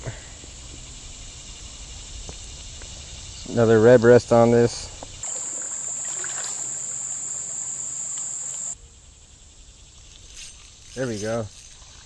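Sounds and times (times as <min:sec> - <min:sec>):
creek-side background: 0:00.0 - 0:08.9, 0:09.9 - 0:12.0
insects trilling: 0:00.0 - 0:12.0.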